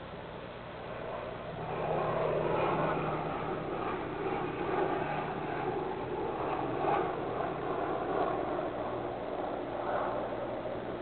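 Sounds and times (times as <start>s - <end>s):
distant motor vehicle drone: 0.0s - 11.0s
low steady hum: 0.0s - 11.0s.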